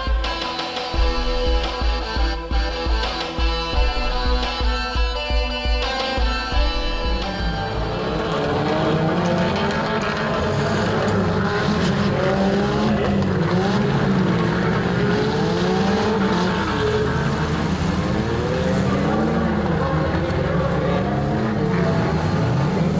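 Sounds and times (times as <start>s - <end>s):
car engines revving: 0.0s - 22.9s.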